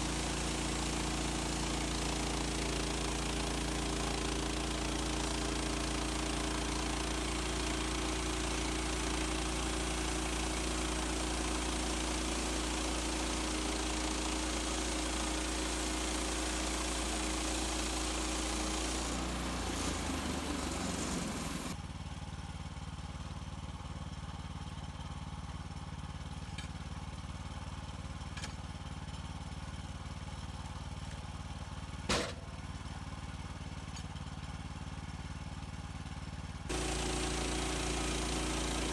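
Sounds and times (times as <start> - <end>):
small gas engine running: 0.0 - 38.9.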